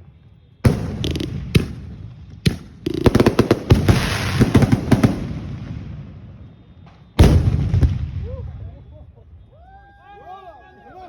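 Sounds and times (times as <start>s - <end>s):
fireworks bangs and crackling: 0.0s - 9.0s.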